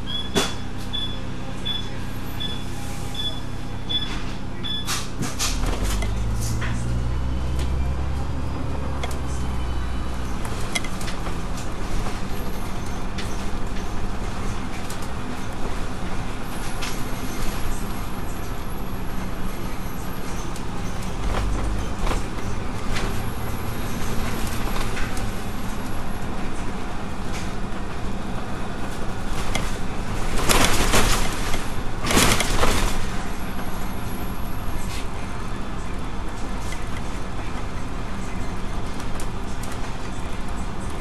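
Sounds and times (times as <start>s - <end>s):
bus engine drone: 0.0s - 41.0s
road noise: 0.0s - 41.0s.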